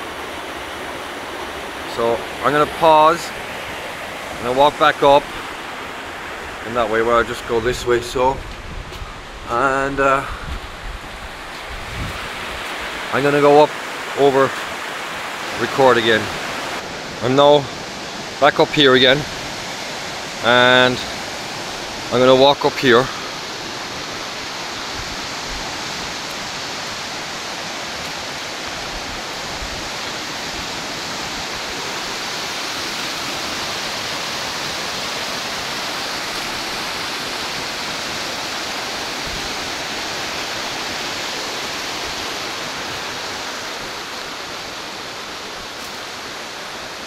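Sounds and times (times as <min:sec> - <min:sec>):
stream rushing: 0:00.0 - 0:47.0.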